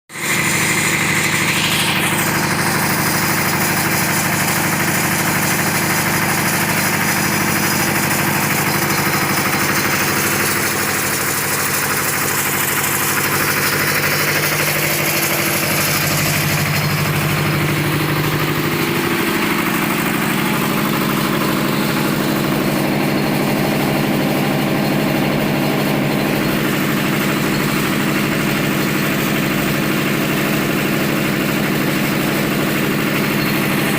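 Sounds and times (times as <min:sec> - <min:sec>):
washing machine humming: 0:00.2 - 0:33.9.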